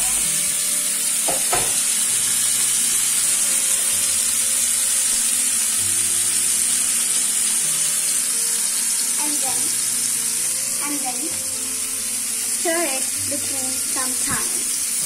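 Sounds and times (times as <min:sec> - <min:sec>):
fish sizzling in a pan: 0:00.0 - 0:15.0.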